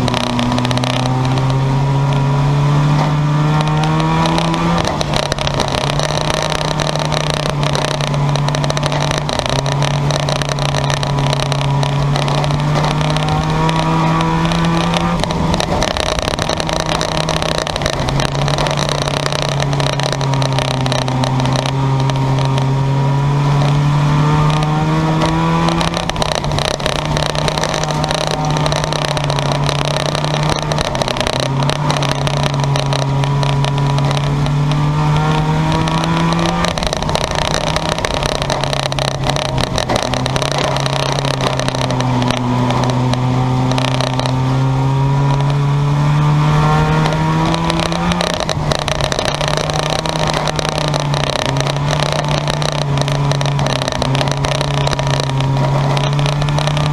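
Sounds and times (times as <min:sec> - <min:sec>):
race car engine at high revs: 0:00.0 - 0:56.9.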